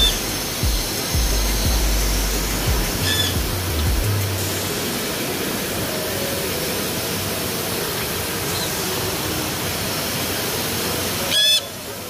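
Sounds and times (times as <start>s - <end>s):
factory machinery noise: 0.0s - 12.0s.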